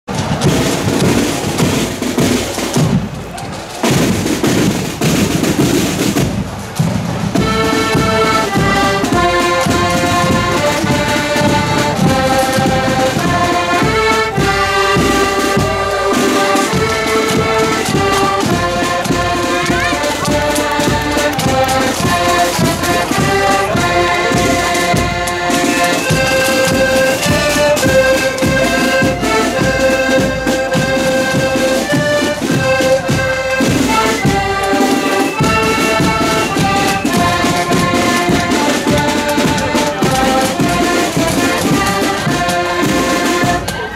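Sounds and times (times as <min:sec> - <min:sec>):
drum beat: 0:00.1 - 0:43.9
accordions playing melody: 0:07.4 - 0:43.9.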